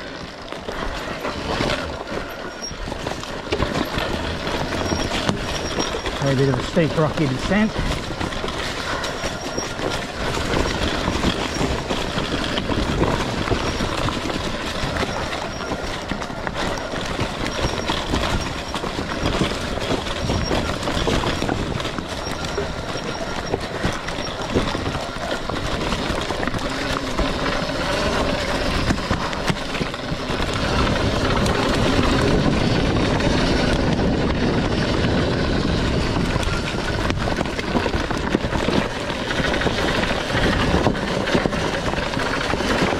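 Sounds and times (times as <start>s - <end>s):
dirt bike rattling over rocks: 0.0s - 42.9s.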